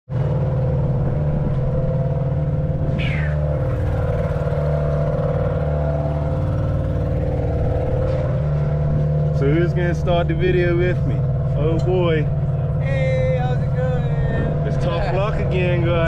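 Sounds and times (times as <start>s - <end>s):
outboard motor running: 0.1s - 16.0s.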